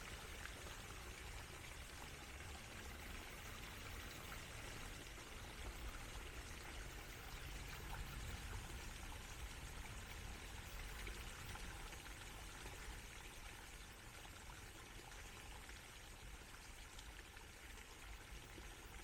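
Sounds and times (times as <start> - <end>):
stream trickling over stones: 0.0 - 19.0.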